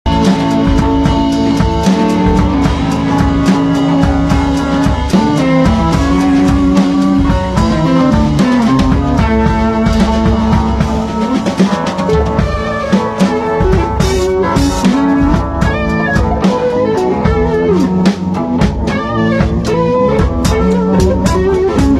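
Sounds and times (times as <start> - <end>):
drum kit beating: 0.0 - 21.9
sustained guitar notes: 0.1 - 21.9.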